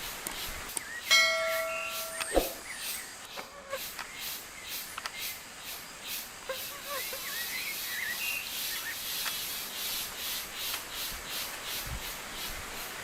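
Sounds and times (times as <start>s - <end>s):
pulsing insect chorus: 0.9s - 13.0s.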